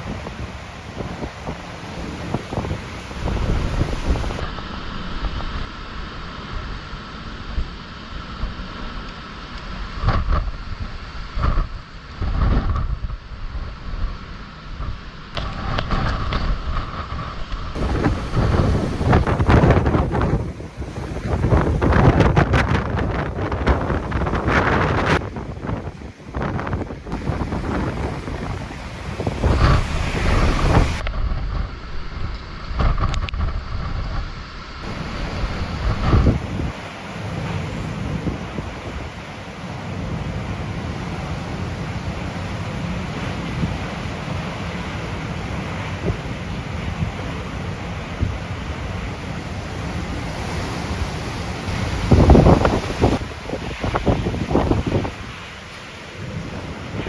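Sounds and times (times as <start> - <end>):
wind buffeting microphone: 0.0 - 6.7, 9.8 - 39.3, 43.2 - 57.0.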